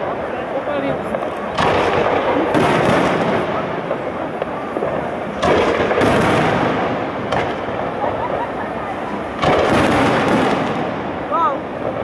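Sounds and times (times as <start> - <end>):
fireworks display noise: 0.0 - 12.0
fireworks shells bursting: 1.0 - 11.2.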